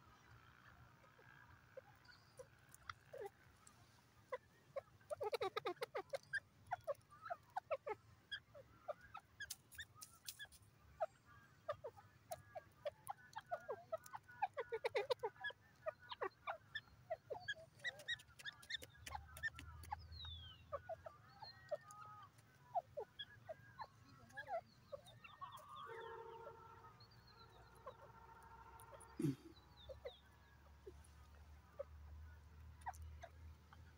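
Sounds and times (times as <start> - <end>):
bird chirps and clicks: 0.1 - 26.2, 26.9 - 33.9.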